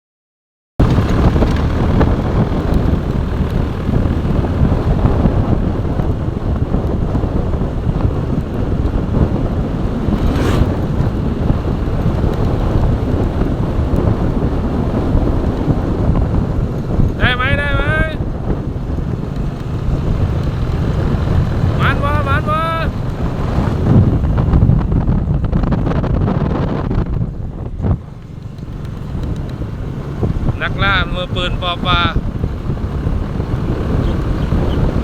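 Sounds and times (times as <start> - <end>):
wind buffeting microphone: 0.8 - 35.0.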